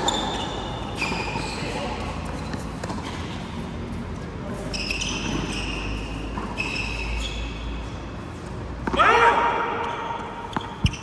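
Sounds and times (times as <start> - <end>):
shoes squeaking on hall floor: 0.0 - 11.0.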